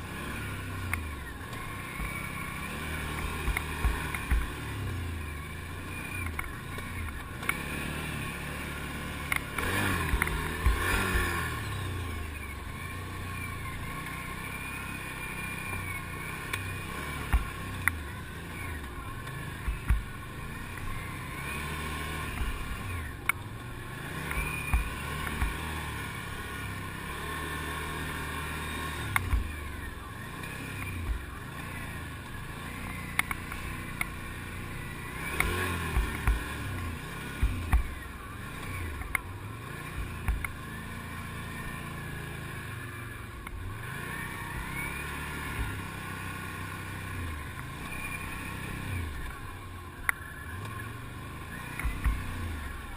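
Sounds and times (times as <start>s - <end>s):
quad bike engine running: 0.0s - 52.9s.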